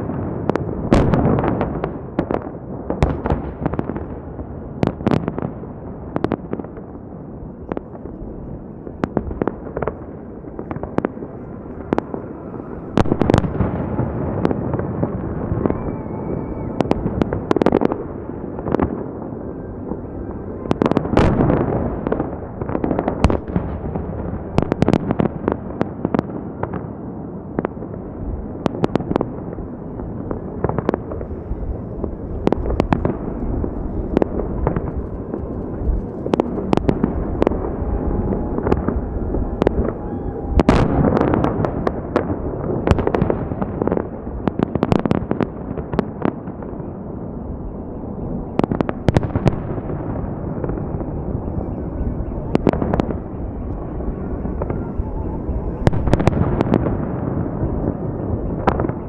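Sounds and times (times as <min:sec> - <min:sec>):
rumble of firework bursts: 0:00.0 - 0:59.0.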